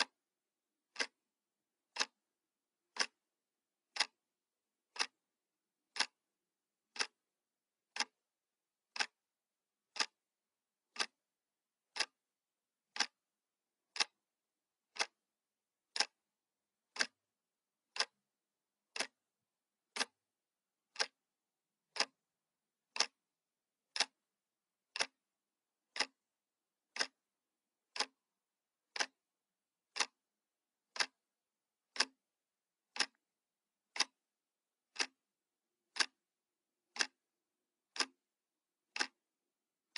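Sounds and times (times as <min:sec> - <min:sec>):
clock ticking: 0:00.0 - 0:00.2, 0:00.8 - 0:08.3, 0:08.9 - 0:09.2, 0:09.8 - 0:12.2, 0:12.8 - 0:23.3, 0:23.9 - 0:35.3, 0:35.9 - 0:38.3, 0:38.9 - 0:39.9.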